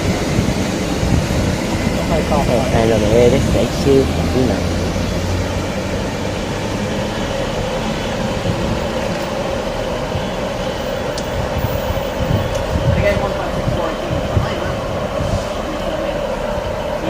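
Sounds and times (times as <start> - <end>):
constant hum: 0.0 - 17.0
passenger train rumbling past: 0.0 - 17.0.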